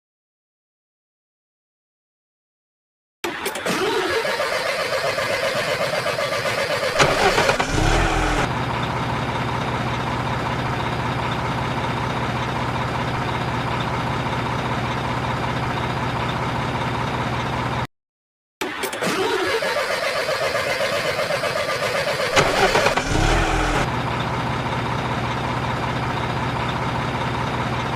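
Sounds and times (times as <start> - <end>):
diesel truck engine starting: 3.2 - 17.9, 18.6 - 27.9.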